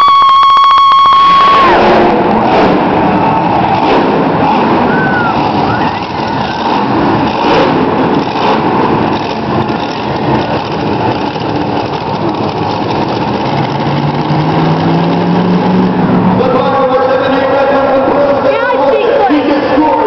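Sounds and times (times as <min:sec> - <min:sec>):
monster truck engine drone: 0:00.0 - 0:20.0.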